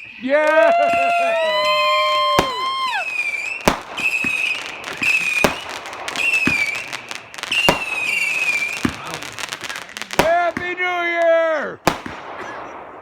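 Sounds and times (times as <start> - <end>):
firework bangs: 0.0 - 13.0
whistling fireworks: 0.0 - 13.0.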